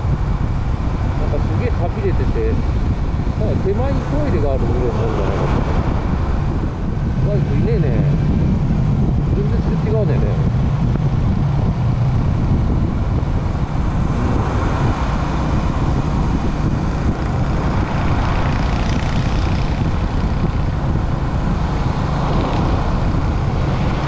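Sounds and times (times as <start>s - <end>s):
motorcycle engine cruising: 0.0s - 24.0s
road noise: 0.0s - 24.0s
wind noise: 0.0s - 24.0s.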